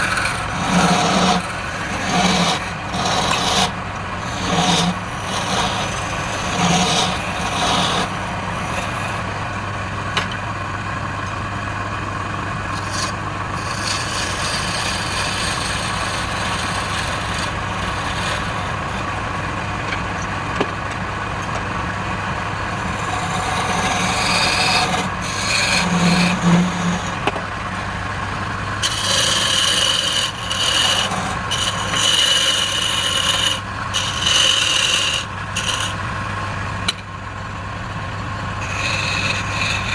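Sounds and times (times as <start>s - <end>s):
tool scraping spinning wood: 0.0s - 10.5s, 12.6s - 19.2s, 22.2s - 37.1s, 38.6s - 39.9s
lathe motor hum: 0.0s - 39.9s.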